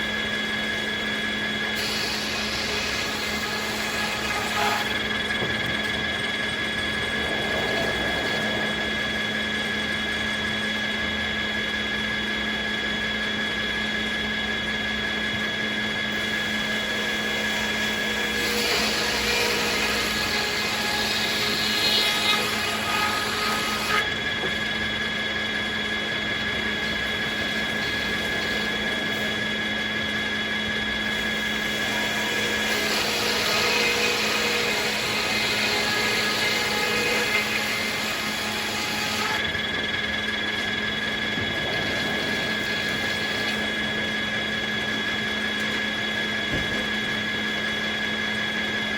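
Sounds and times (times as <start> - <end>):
circular saw cutting logs: 0.0 - 48.9.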